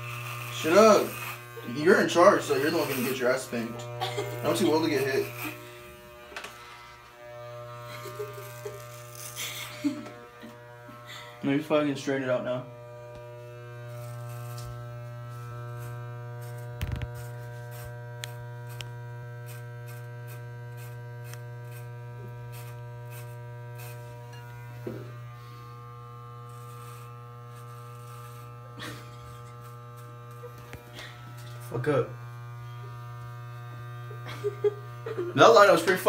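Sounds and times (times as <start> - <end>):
electric hair clipper buzzing: 0.0 - 36.0.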